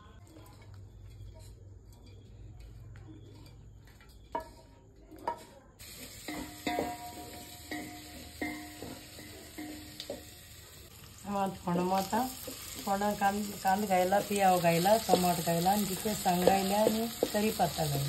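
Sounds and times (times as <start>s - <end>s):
metal spatula scraping: 0.1s - 10.8s, 12.3s - 18.0s.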